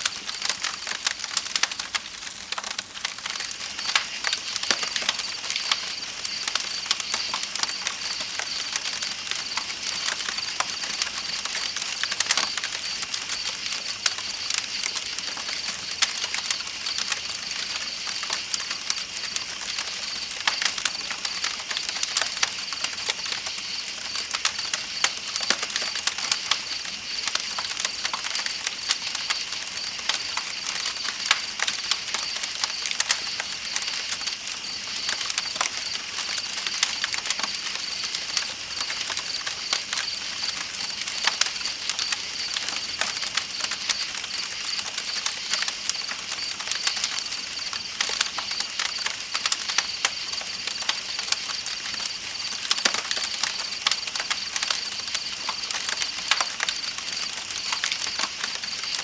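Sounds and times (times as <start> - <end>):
campfire crackling and popping: 0.0 - 59.0
night insects chirping: 3.2 - 59.0.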